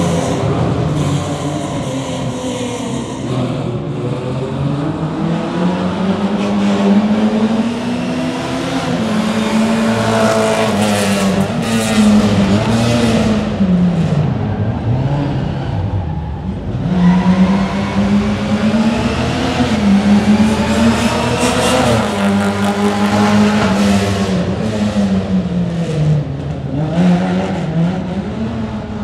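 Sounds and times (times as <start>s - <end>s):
car engine revving high: 0.0s - 29.0s.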